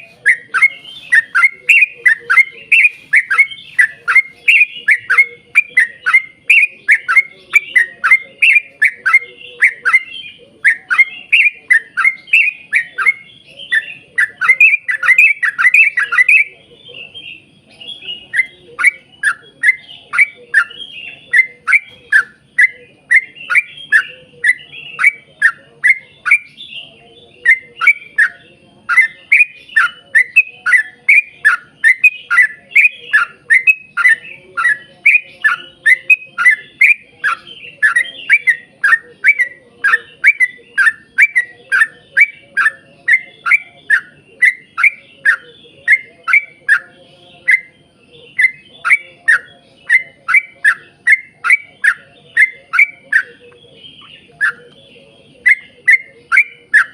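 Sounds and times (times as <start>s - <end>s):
bulbul calling: 0.0s - 56.9s.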